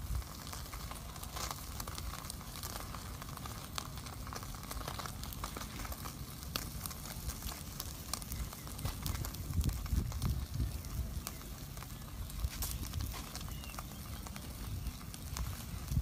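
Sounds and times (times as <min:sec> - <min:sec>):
burning wood popping: 0:00.0 - 0:16.0
wood fire crackling: 0:00.0 - 0:16.0.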